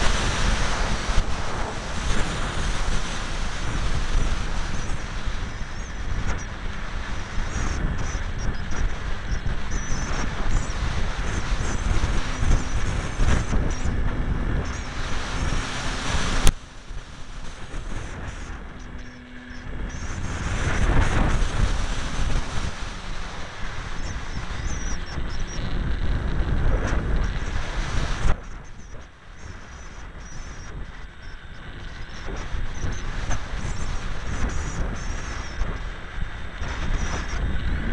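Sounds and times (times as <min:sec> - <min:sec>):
electric motor and propeller whine: 0:00.0 - 0:37.9
wind rushing over microphone: 0:00.0 - 0:37.9.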